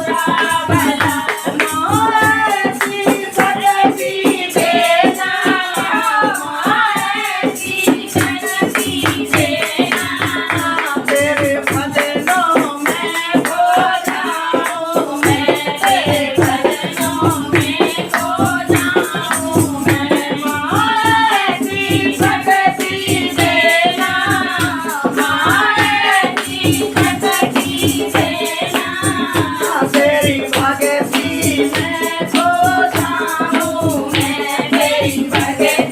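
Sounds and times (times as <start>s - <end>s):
devotional singing: 0.0s - 35.9s
shaker or jingle rattling: 0.0s - 35.9s
steady percussion beat: 0.0s - 35.9s.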